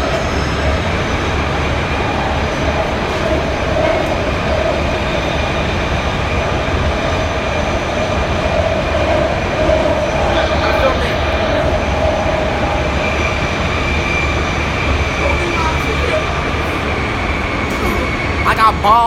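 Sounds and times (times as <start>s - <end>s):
train wheels rumbling in tunnel: 0.0s - 19.0s.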